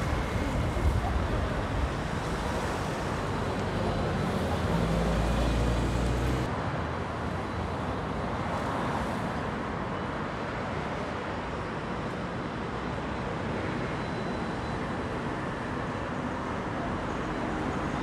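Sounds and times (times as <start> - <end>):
passing traffic: 0.0 - 18.0.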